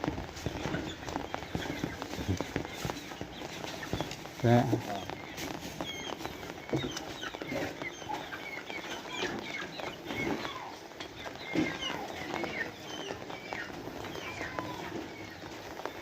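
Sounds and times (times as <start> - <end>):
chickens clucking: 0.0 - 16.0
high chirps and peeps: 0.1 - 16.0.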